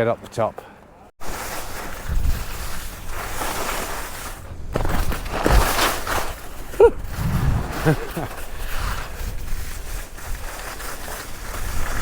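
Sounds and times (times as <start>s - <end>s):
skis hissing and scraping on snow: 1.2s - 12.0s
wind rushing over microphone: 1.8s - 12.0s.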